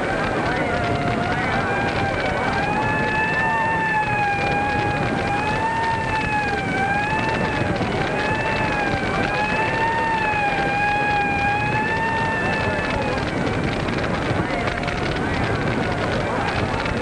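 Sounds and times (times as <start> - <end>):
siren wailing: 0.0 - 17.0
steady rushing noise: 0.0 - 17.0.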